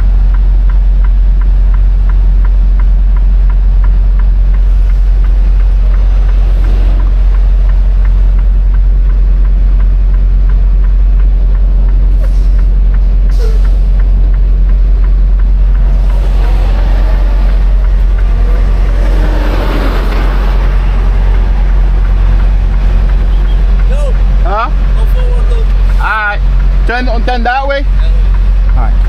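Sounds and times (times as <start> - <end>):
diesel truck engine rumbling: 0.0 - 29.0
light regular ticking: 0.0 - 29.0.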